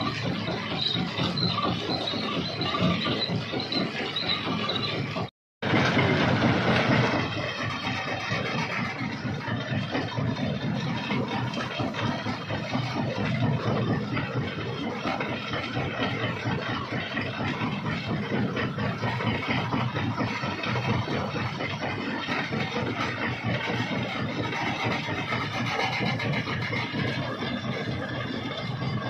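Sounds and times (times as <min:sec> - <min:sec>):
crusher mechanical rumble: 0:00.0 - 0:29.0.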